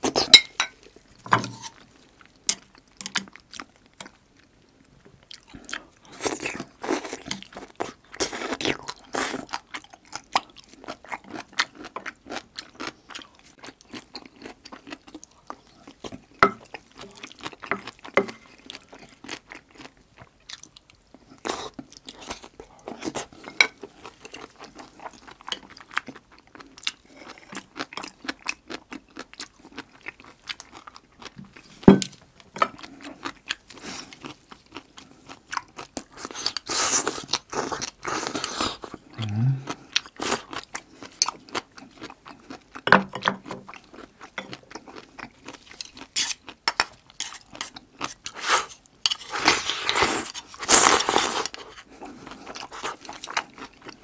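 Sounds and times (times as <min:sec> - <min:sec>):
person chewing and crunching food: 0:00.0 - 0:54.0.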